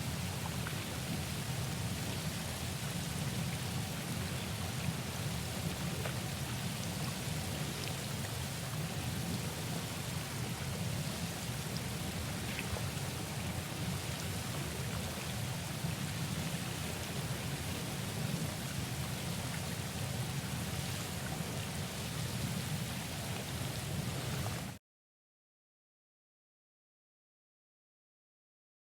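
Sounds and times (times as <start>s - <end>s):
hot tub bubbling: 0.0s - 24.8s.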